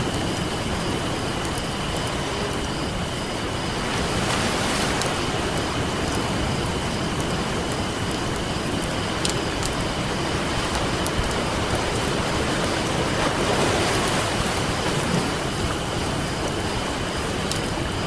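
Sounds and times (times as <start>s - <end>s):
campfire crackling and popping: 0.0s - 14.2s, 14.8s - 18.0s
ocean waves on a beach: 0.0s - 18.0s.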